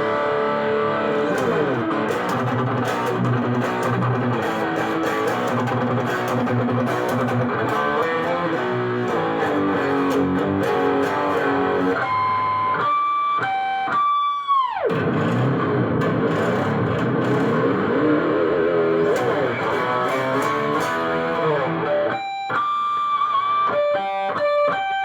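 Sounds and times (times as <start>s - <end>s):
electric guitar lead line: 0.0s - 25.0s.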